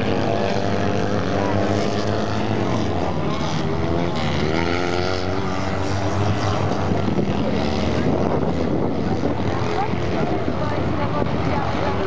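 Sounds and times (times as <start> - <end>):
racing kart engines passing: 0.0 - 12.0.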